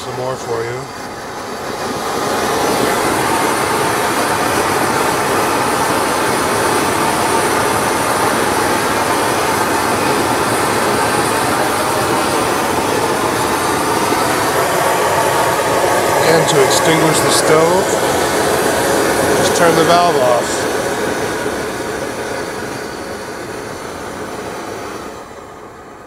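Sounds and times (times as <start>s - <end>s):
camp stove burner roaring: 0.0s - 26.0s.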